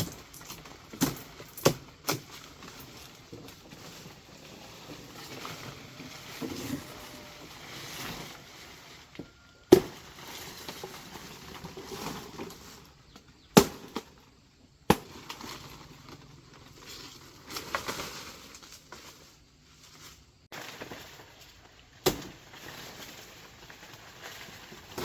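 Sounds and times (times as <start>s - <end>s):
rustling and handling noise: 0.0s - 13.4s, 15.0s - 25.0s.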